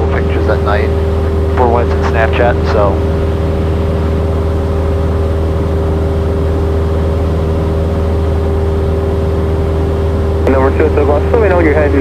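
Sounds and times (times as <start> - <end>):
airplane engine droning in cabin: 0.0 - 12.0.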